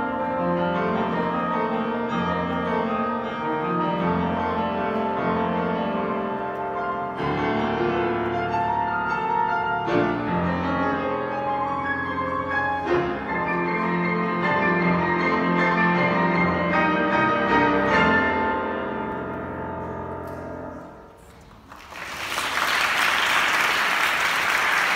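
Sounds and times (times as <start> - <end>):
piano duet: 0.0 - 21.7.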